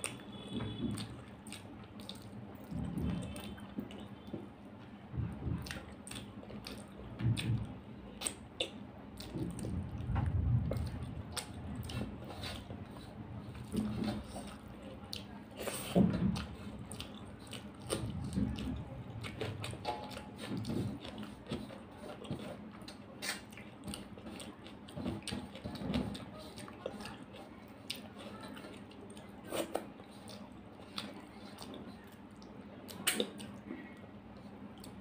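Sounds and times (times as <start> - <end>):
chewing and wet mouth noises: 0.0 - 35.0.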